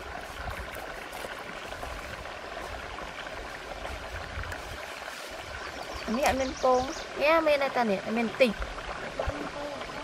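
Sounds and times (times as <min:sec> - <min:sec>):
stream water running over rocks: 0:00.0 - 0:10.0.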